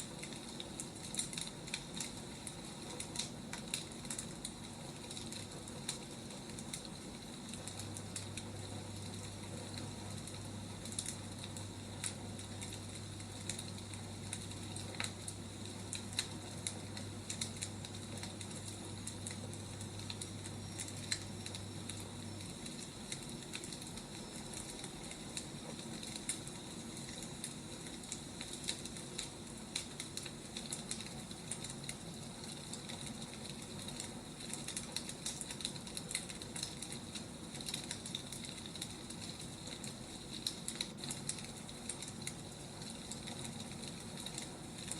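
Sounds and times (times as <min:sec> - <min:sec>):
steady hiss: 0:00.0 - 0:44.9
wood fire crackling and popping: 0:00.0 - 0:44.9.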